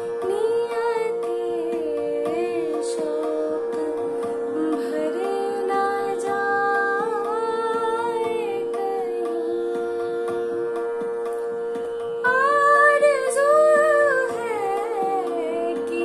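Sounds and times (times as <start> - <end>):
held drone note: 0.0 - 16.0
woman singing: 0.0 - 16.0.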